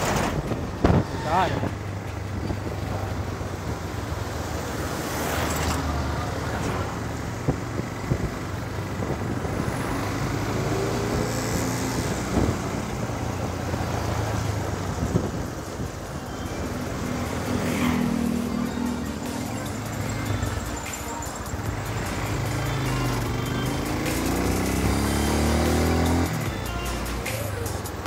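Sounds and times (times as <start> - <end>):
surrounding traffic noise: 0.0 - 28.0.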